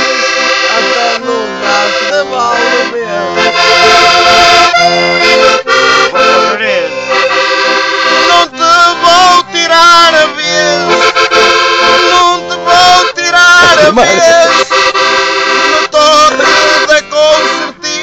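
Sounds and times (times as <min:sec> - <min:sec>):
button accordion playing: 0:00.0 - 0:18.0.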